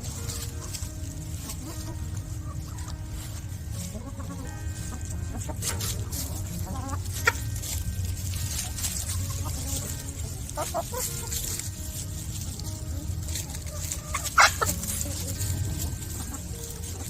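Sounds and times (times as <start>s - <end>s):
hens clucking: 0.0s - 17.0s
hens sharp calls: 0.0s - 17.0s
steady low rumble: 0.0s - 17.0s.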